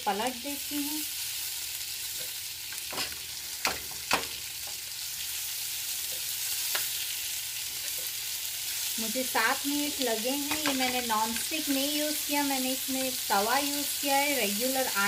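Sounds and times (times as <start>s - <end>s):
meat sizzling in oil: 0.0s - 15.0s.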